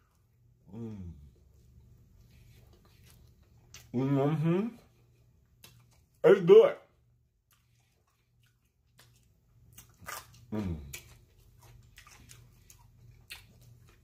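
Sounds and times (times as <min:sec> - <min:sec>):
man chewing food: 0:00.0 - 0:04.0, 0:04.8 - 0:06.2, 0:07.1 - 0:14.0.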